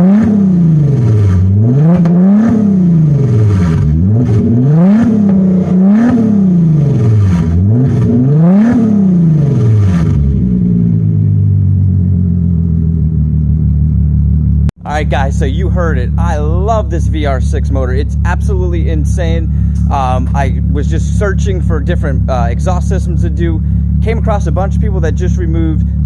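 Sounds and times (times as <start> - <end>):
car engine revving: 0.0 - 26.0
exhaust pipes rattling: 0.0 - 26.0.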